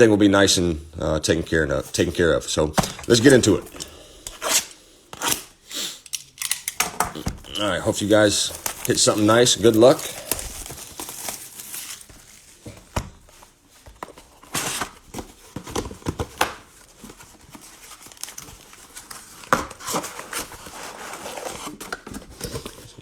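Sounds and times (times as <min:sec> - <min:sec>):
cellophane crinkling and tearing: 0:03.1 - 0:23.0.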